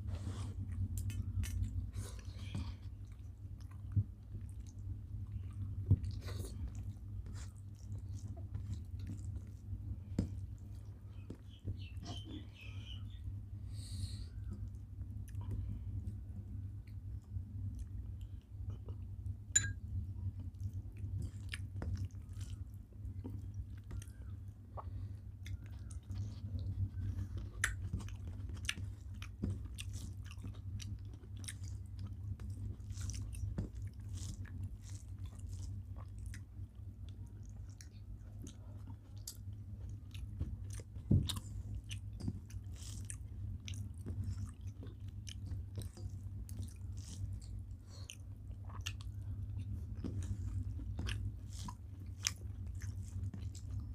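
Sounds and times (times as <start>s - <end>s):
steady low hum: 0.0s - 53.9s
chewing and biting food: 0.5s - 12.5s, 20.2s - 53.9s.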